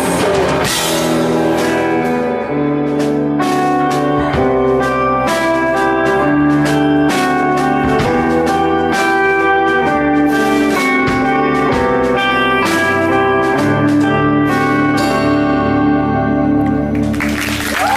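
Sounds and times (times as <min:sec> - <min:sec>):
bluesy electric guitar notes: 0:00.0 - 0:17.9
drums: 0:00.0 - 0:17.9.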